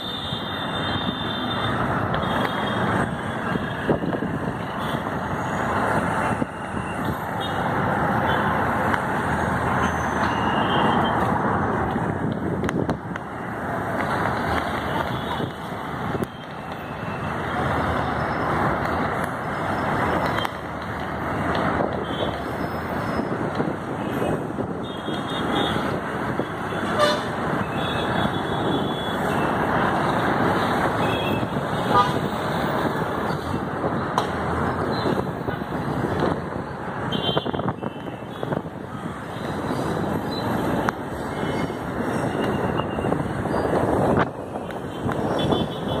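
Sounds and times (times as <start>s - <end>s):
road traffic din: 0.0s - 46.0s.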